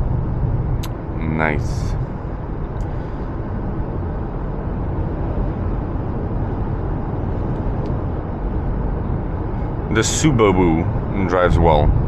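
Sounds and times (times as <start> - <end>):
car engine: 0.0 - 12.0
road and tyre noise in cabin: 0.0 - 12.0.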